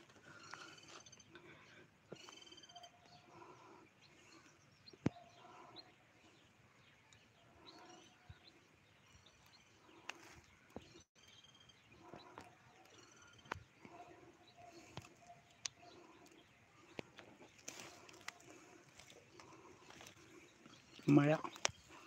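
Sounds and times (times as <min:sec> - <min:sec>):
faint trilled birdsong: 0:00.0 - 0:22.0.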